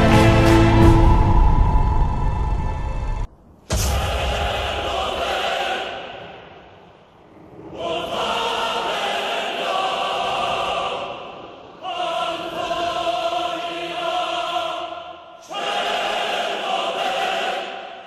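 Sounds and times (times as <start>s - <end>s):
choir singing long held chords: 0.0s - 3.3s, 4.0s - 18.0s.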